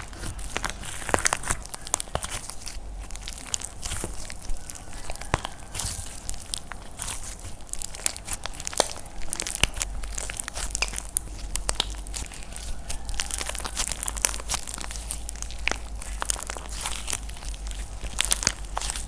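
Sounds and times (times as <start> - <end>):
dry clay crackling and crumbling: 0.0 - 19.0.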